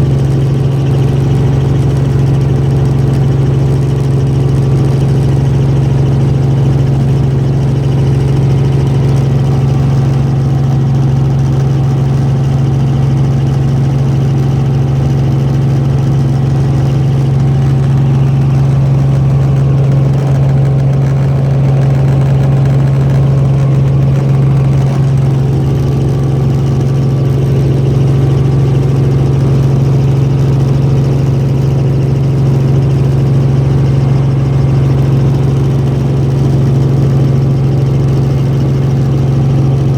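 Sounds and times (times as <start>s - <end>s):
helicopter cabin hum: 0.0s - 39.9s.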